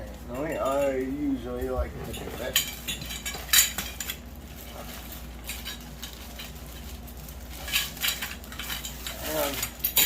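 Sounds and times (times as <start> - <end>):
metal poles clinking and clattering: 0.3 - 10.0.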